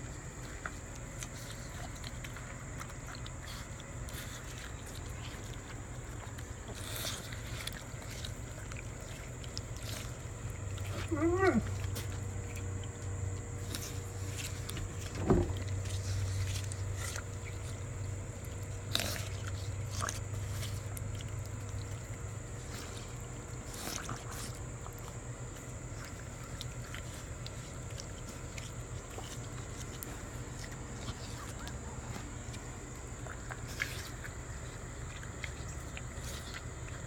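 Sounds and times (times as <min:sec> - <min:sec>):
fawns chewing watermelon: 0:00.0 - 0:37.0
steady low hum: 0:00.0 - 0:37.0.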